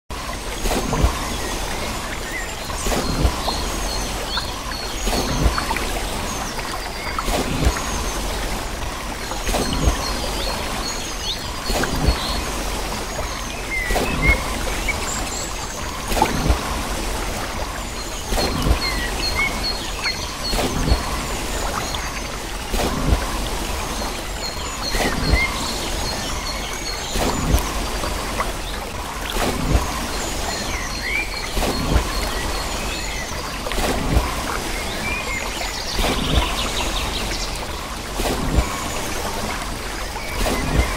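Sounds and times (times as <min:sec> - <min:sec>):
running water: 0:00.1 - 0:40.9
waterwheel paddles thumping water: 0:00.1 - 0:40.9
birds chirping: 0:00.3 - 0:40.9.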